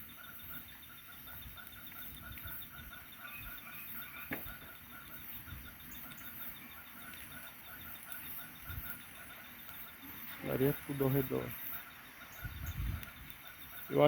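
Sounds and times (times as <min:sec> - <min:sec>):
bonfire burning: 0:00.0 - 0:14.0
night insects chorus: 0:00.0 - 0:14.0.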